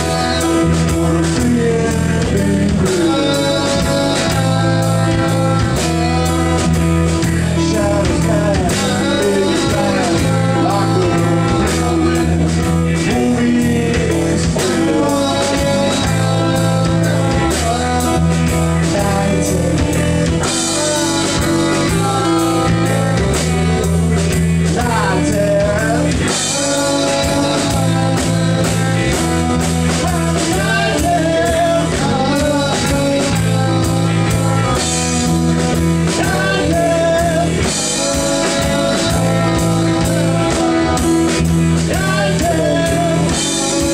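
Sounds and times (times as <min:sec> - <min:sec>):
bass guitar: 0:00.0 - 0:43.9
drum kit beat: 0:00.0 - 0:43.9
electric guitar: 0:00.0 - 0:43.9
person singing: 0:00.0 - 0:43.9.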